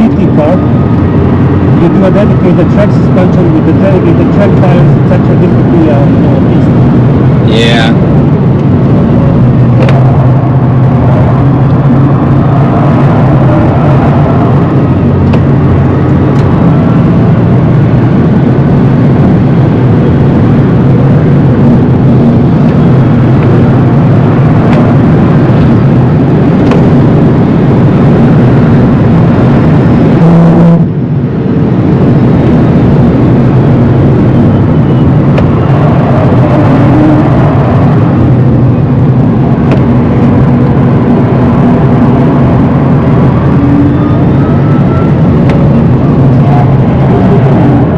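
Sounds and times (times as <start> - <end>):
tyre and road roar: 0.0 - 47.9.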